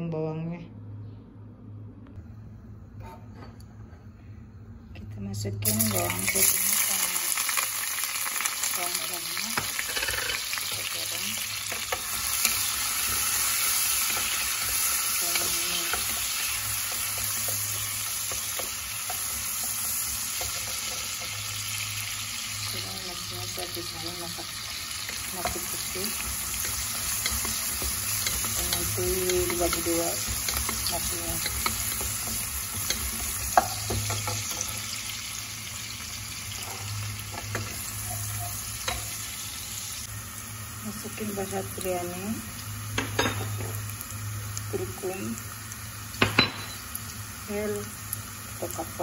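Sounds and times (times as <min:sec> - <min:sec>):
garlic sizzling in hot oil: 0:05.6 - 0:49.0.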